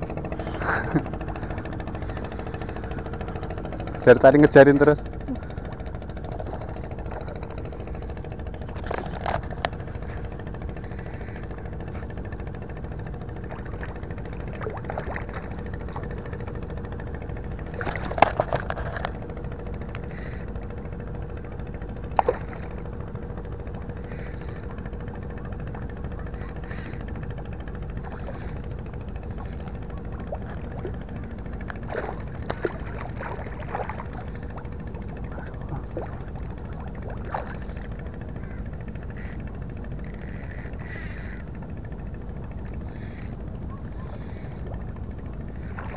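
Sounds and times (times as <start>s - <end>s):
constant hum: 0.0s - 45.9s.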